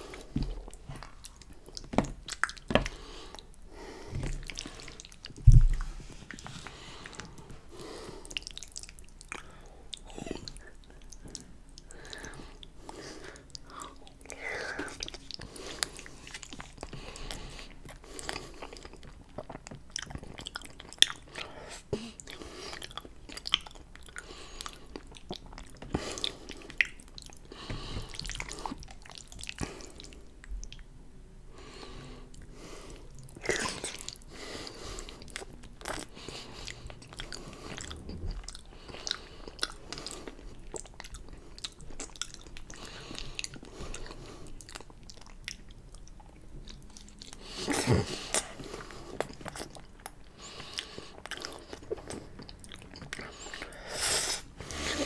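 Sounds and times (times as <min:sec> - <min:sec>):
chewing and slurping noodles: 0:04.3 - 0:30.8, 0:31.9 - 0:55.0.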